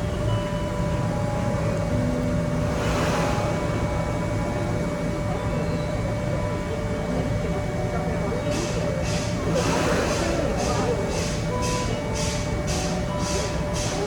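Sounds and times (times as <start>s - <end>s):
boat engine rumble: 0.0s - 14.0s
constant hum: 0.0s - 14.0s.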